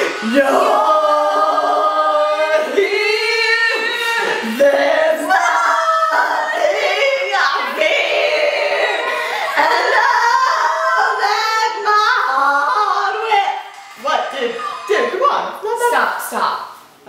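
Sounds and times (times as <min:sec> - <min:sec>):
two people singing: 0:00.0 - 0:15.1.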